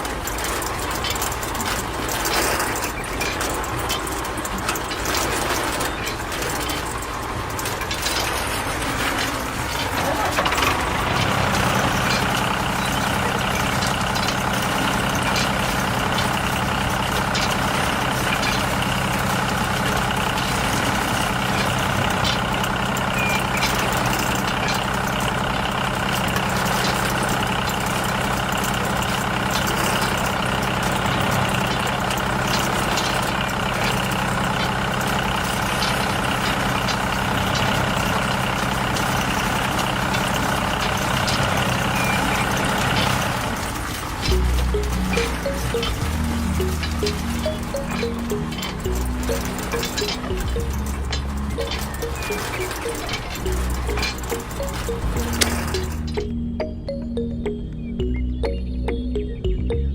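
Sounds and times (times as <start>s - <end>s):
heavy vehicle engine idling: 0.0s - 59.9s.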